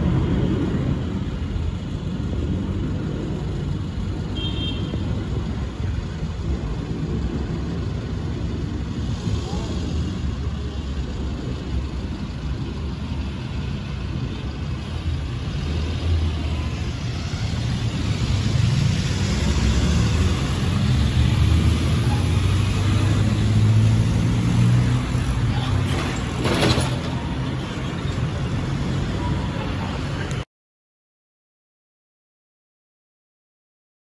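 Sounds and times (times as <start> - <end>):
low engine rumble: 0.0 - 30.4.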